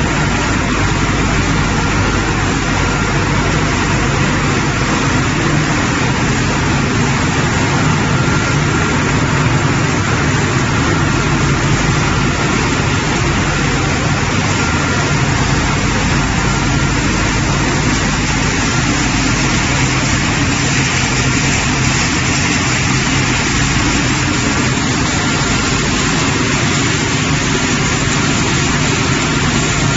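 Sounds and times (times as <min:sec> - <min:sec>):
industrial machinery hum and rushing: 0:00.0 - 0:29.9.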